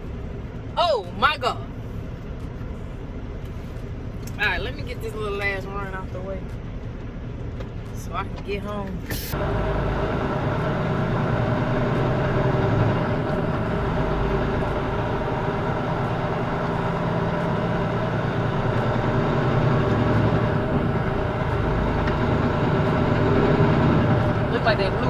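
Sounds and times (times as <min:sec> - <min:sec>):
diesel truck engine rumbling: 0:00.0 - 0:25.0
road noise: 0:00.0 - 0:25.0.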